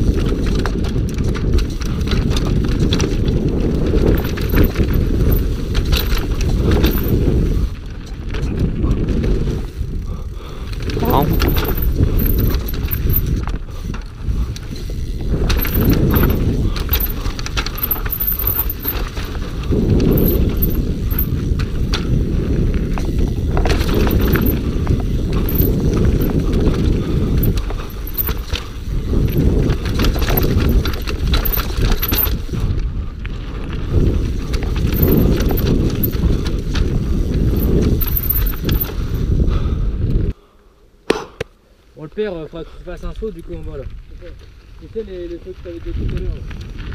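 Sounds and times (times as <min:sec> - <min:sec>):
mountain bike rattling and clattering: 0:00.0 - 0:40.3, 0:43.0 - 0:46.9.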